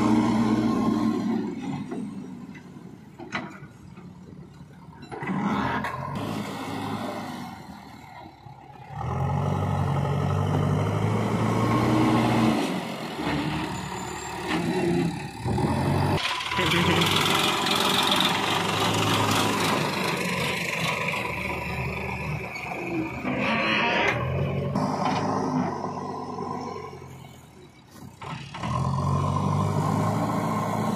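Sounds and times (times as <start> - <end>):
diesel engines revving: 0.0 - 30.9.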